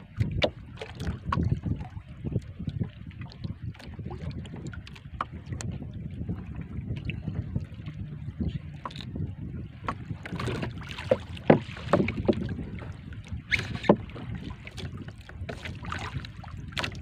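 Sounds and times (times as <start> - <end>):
water lapping against boat hull: 0.0 - 17.0
wind on microphone: 0.0 - 17.0.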